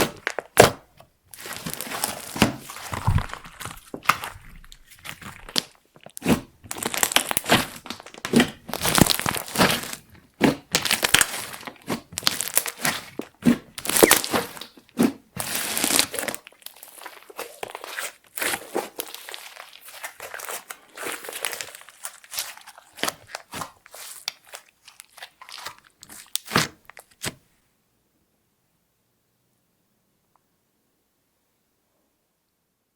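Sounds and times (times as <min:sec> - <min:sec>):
sticky slime squishing: 0:00.0 - 0:00.8, 0:01.4 - 0:27.4.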